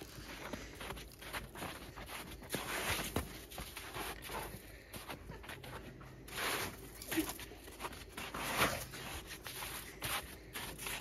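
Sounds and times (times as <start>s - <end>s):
footsteps on snow and rock: 0.0s - 11.0s.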